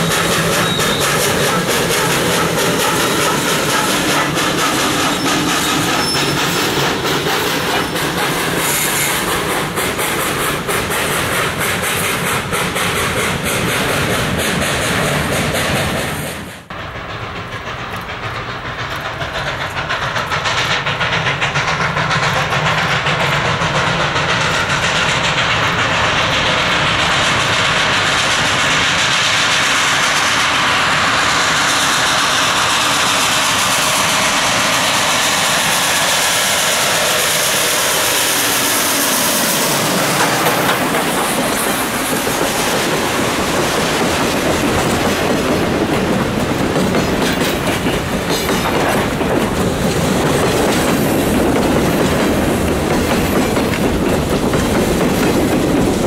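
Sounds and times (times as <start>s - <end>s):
steam locomotive chuffing with hiss: 0.0s - 56.0s.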